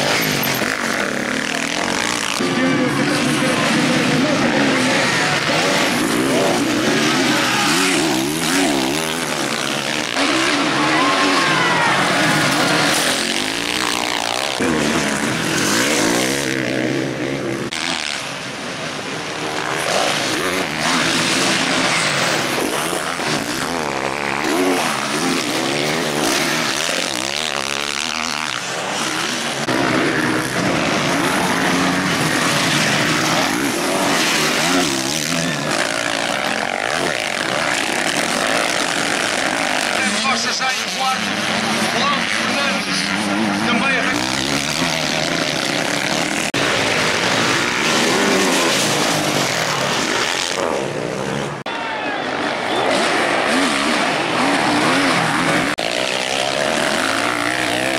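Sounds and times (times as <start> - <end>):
motocross engines revving: 0.0 - 57.9.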